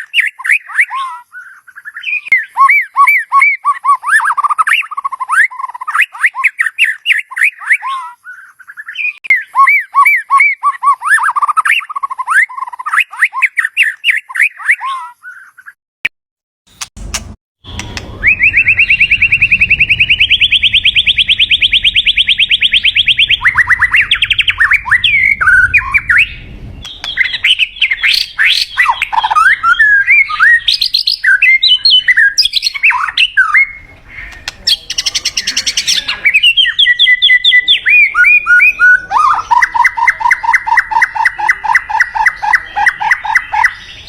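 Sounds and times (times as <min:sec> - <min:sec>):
bird singing trills and whistles: 0:00.0 - 0:15.8, 0:17.7 - 0:44.0.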